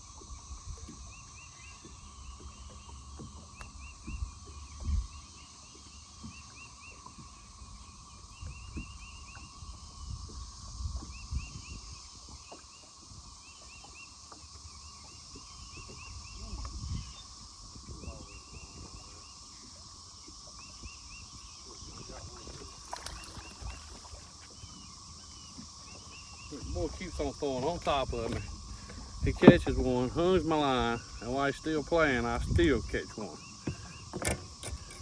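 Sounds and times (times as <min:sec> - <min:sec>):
low thumps from boat: 0:00.0 - 0:13.2, 0:13.8 - 0:35.0.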